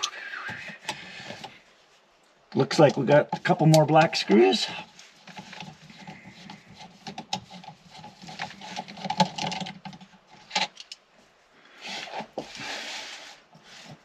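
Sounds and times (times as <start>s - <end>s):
soft rustle: 0.0s - 14.0s.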